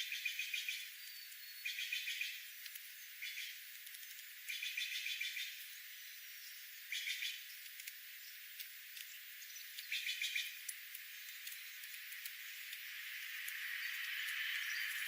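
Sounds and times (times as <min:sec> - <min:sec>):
steady background hiss: 0:00.0 - 0:15.0
wild birds chirping: 0:00.0 - 0:15.0.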